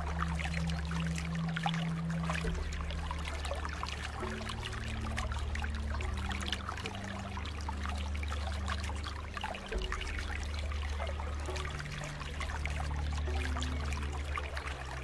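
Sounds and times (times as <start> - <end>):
low steady hum: 0.0 - 15.0
pool water trickling and splashing: 0.0 - 15.0.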